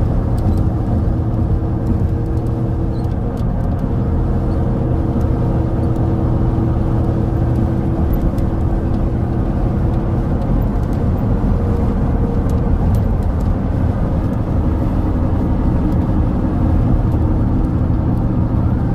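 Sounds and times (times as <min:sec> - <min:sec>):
car engine and road noise: 0:00.0 - 0:18.9.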